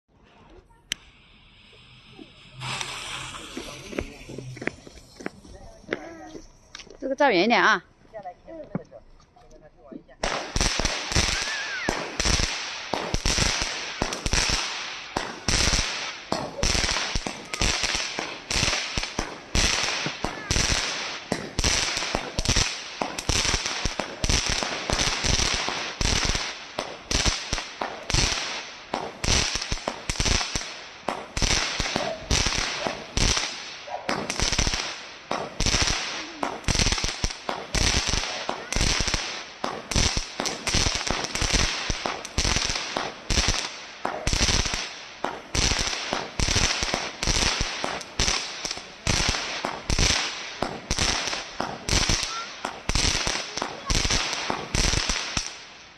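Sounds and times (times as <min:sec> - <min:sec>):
fireworks bangs: 0:00.2 - 0:07.8, 0:10.2 - 0:55.8.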